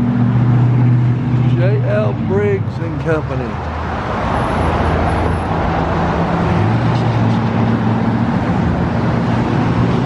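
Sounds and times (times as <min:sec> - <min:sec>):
road noise hiss: 0:00.0 - 0:10.0
vehicle engine hum: 0:00.0 - 0:10.0.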